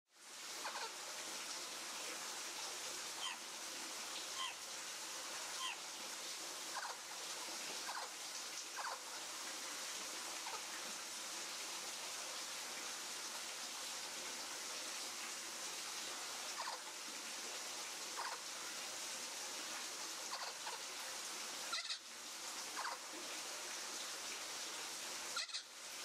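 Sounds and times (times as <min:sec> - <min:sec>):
steady background hiss: 0:00.2 - 0:26.0.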